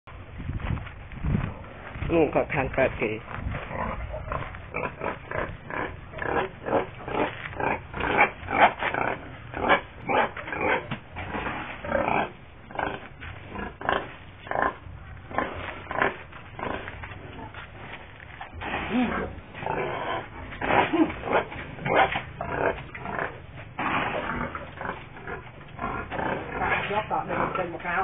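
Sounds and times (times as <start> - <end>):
boar grunting: 3.6 - 17.9, 18.5 - 28.0.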